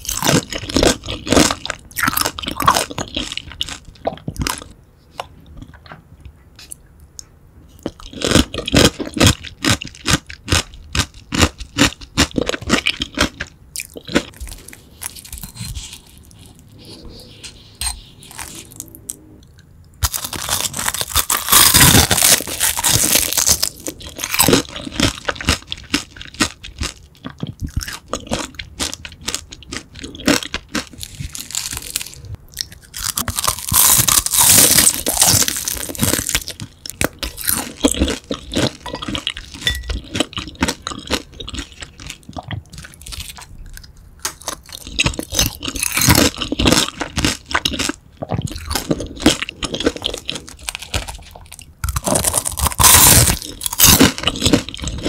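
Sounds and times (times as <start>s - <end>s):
crunching and chewing food: 0.0s - 55.0s.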